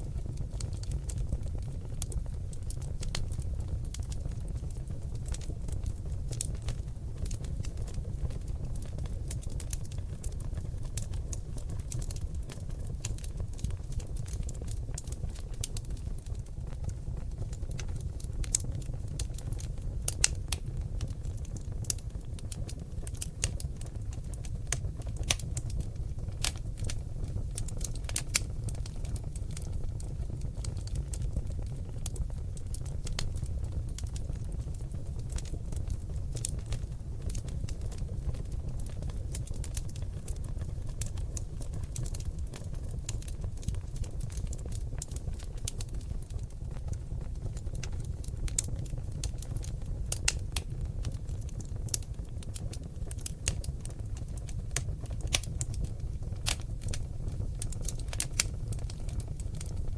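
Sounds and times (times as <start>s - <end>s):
logs crackling and popping: 0.0s - 59.9s
low rumble of flames: 0.0s - 59.9s.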